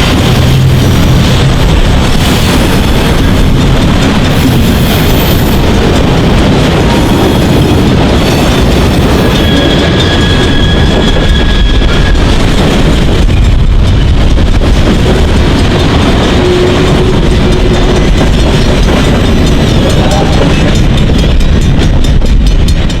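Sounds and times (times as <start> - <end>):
train wheels clattering on rails: 0.0 - 23.0
high squeal of train wheels: 2.2 - 5.8, 6.8 - 14.3, 15.6 - 23.0.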